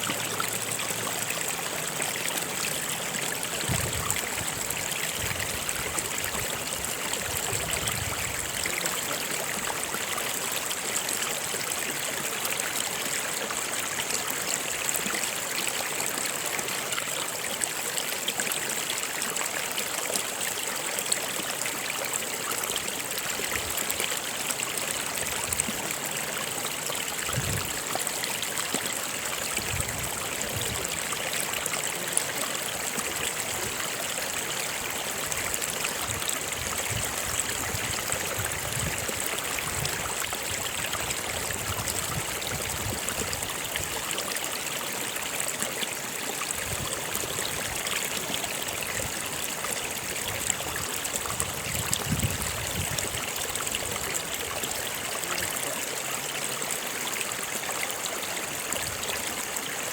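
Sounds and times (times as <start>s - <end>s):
water running over rocks: 0.0s - 59.9s.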